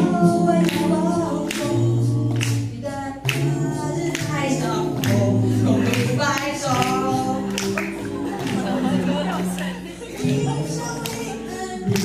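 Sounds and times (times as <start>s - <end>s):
vocal ensemble singing in harmony: 0.0s - 12.0s.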